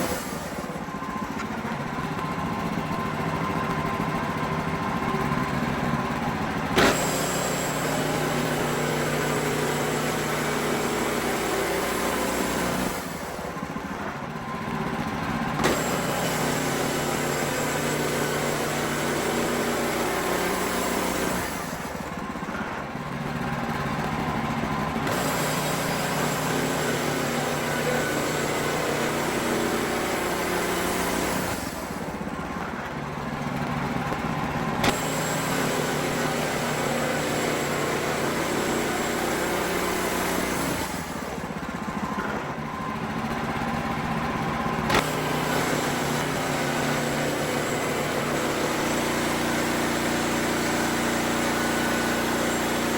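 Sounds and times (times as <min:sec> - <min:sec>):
band sawmill sawing log: 0:00.0 - 0:52.9.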